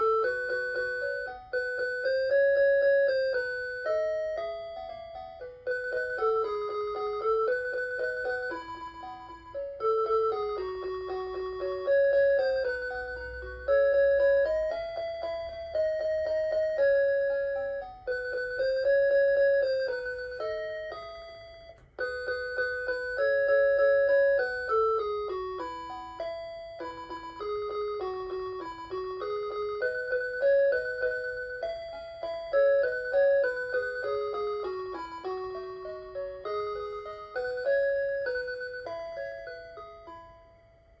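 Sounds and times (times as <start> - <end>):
alarm clock playing a melody: 0.0 - 41.0.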